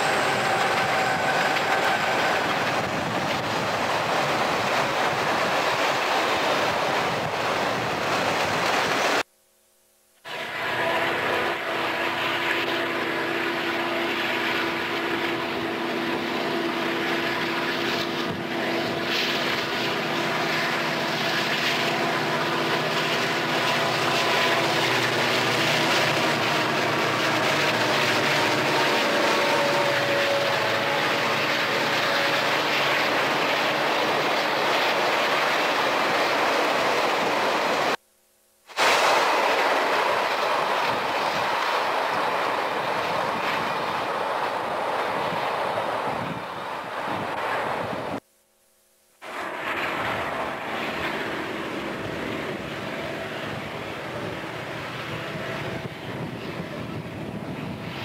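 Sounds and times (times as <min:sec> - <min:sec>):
diesel locomotive engine drone: 0:00.0 - 0:09.3, 0:10.2 - 0:38.0, 0:38.7 - 0:48.2, 0:49.2 - 0:58.0
freight cars rolling: 0:00.0 - 0:09.3, 0:10.4 - 0:38.0, 0:38.7 - 0:48.2, 0:49.2 - 0:58.0.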